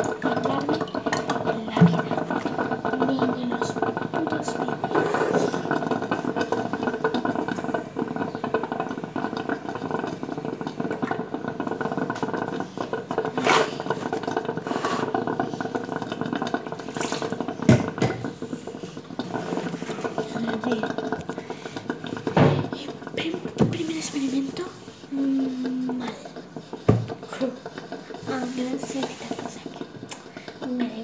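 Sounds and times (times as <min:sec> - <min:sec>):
mechanical hum: 0:00.0 - 0:31.0.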